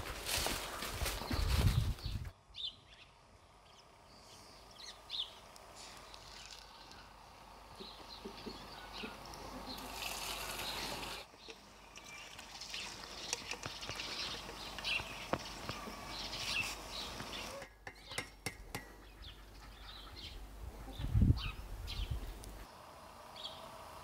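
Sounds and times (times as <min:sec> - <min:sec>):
birds chirping: 0:01.2 - 0:22.7.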